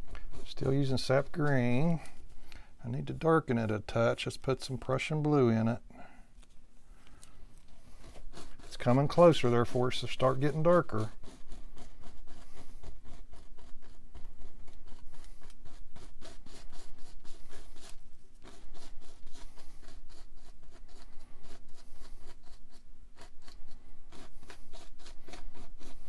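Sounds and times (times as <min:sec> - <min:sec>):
brush scratching on canvas: 0:00.0 - 0:05.8, 0:07.5 - 0:26.0.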